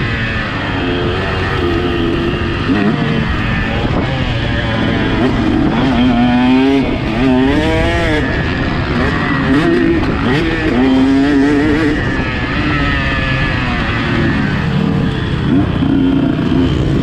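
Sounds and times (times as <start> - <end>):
motocross bike engine revving: 0.0 - 17.0
steady rushing noise: 0.0 - 17.0.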